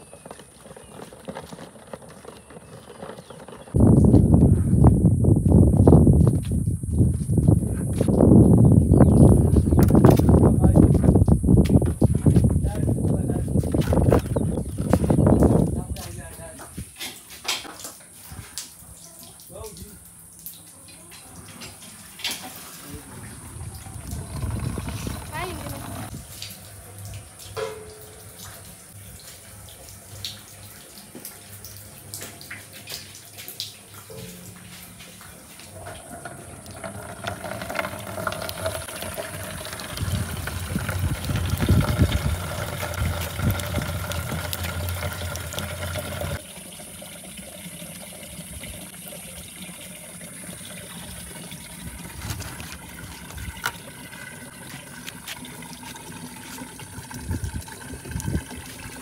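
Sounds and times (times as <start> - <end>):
water running: 7.4 - 59.0.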